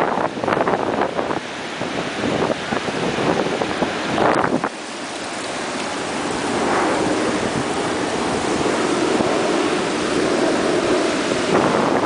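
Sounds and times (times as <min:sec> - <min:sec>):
ocean surf washing over rocks: 0:00.0 - 0:12.0
wind on microphone: 0:00.0 - 0:12.0.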